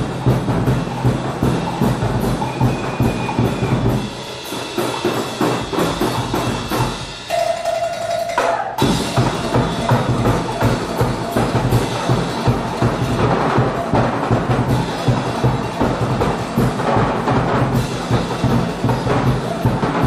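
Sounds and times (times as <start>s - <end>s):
drum kit playing fast beat: 0.0s - 20.0s.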